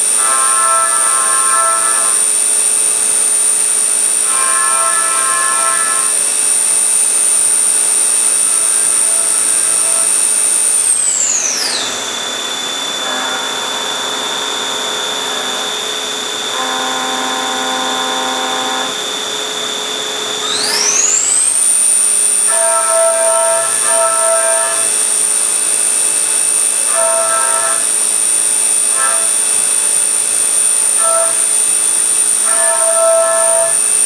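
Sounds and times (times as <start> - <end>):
milling machine spindle whine: 0.0 - 34.0.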